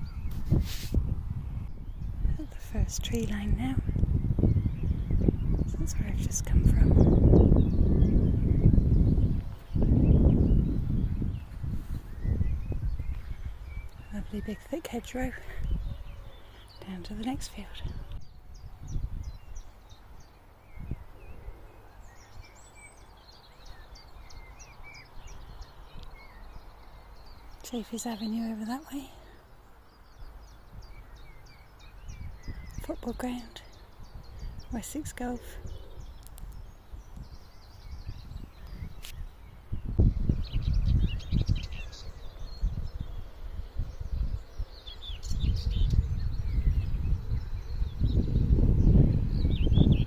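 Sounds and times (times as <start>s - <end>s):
small birds singing: 0.0s - 50.0s
wind buffeting microphone: 0.0s - 50.0s.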